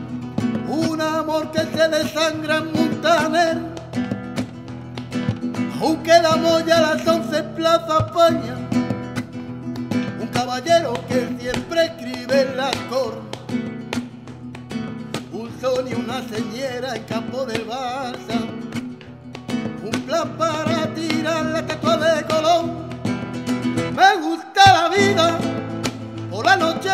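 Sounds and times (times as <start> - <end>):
man singing with ornamented voice: 0.0 - 4.0, 5.6 - 13.5, 15.2 - 18.8, 19.8 - 23.1, 23.9 - 26.9
acoustic guitar strumming: 0.0 - 26.9.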